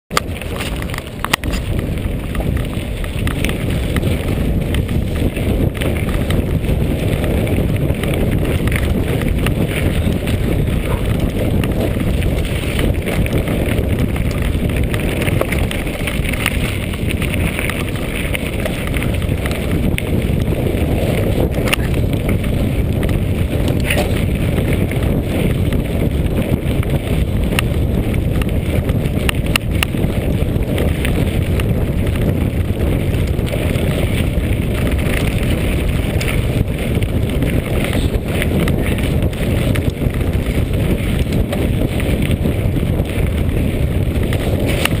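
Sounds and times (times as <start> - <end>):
bike rattling: 0.1 - 45.0
tyres crunching on gravel: 0.1 - 45.0
wind buffeting microphone: 0.1 - 45.0.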